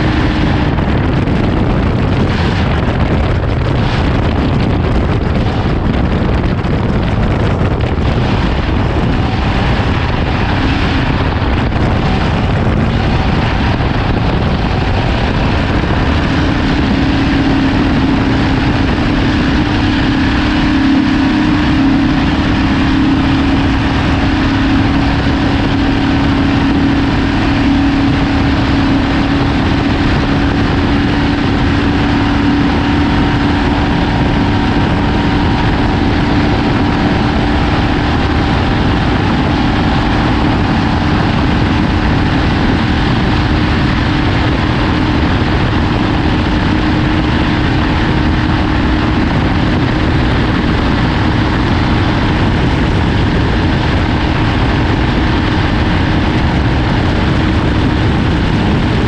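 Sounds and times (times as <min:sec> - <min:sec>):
steady hum: 0:00.0 - 0:59.0
truck engine and driving noise: 0:00.0 - 0:59.0.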